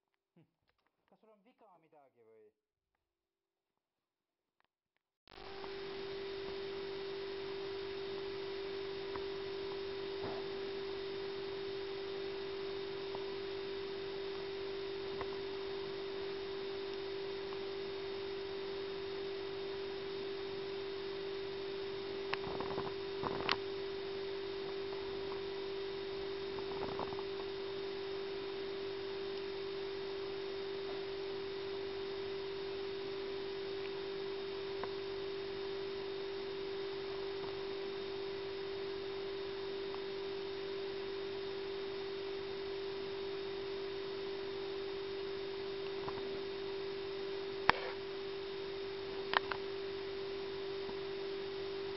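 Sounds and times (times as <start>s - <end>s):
steady single-tone hum: 5.3s - 51.9s.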